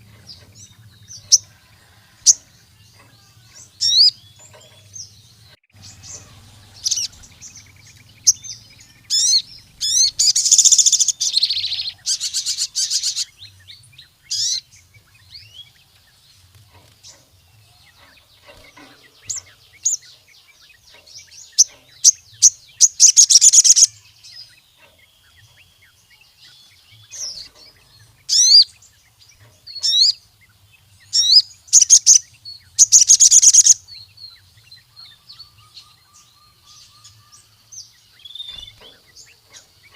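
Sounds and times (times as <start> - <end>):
sunbird chirps and trills: 0.0 - 39.9.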